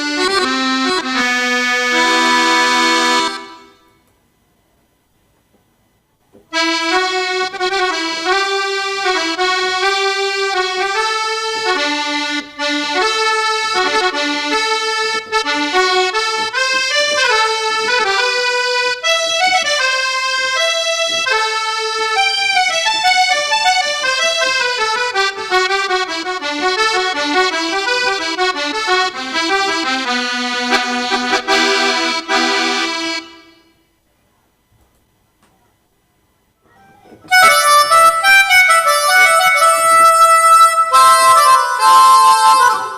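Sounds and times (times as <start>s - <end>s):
keyboard melody over chords: 0.0s - 3.9s, 6.5s - 33.6s, 37.3s - 42.9s.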